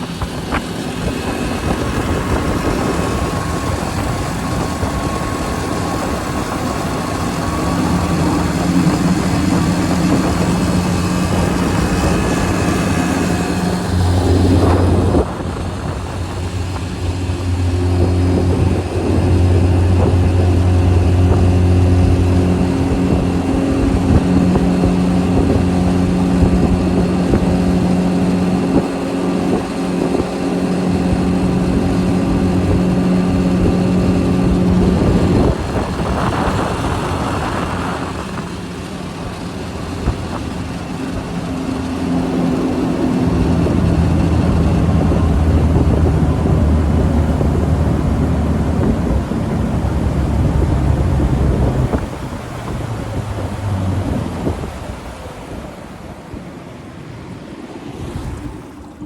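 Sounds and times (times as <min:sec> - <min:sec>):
outboard motor running: 0:00.0 - 0:59.0
wind buffeting microphone: 0:00.0 - 0:59.0.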